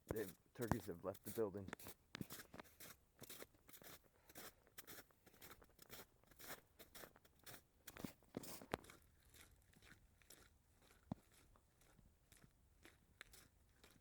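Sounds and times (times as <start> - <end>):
footsteps crunching in snow: 0.1 - 11.5.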